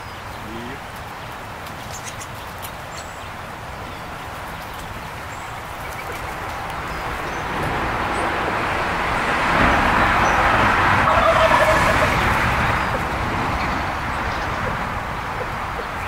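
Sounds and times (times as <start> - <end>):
vehicle noise: 0.0 - 16.0.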